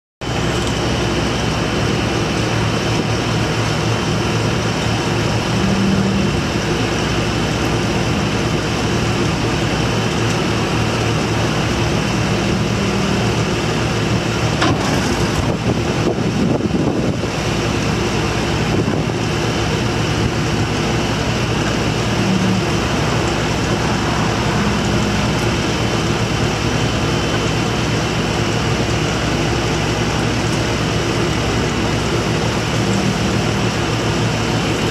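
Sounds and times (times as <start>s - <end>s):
excavator diesel engine running: 0.2s - 34.9s
hydraulics whining under load: 0.2s - 34.9s.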